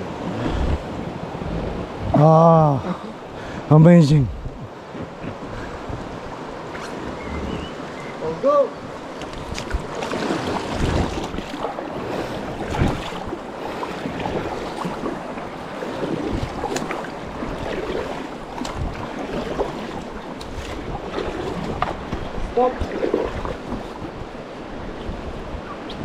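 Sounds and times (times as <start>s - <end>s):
rushing river water: 0.0s - 26.0s
paddles splashing in water: 4.5s - 26.0s.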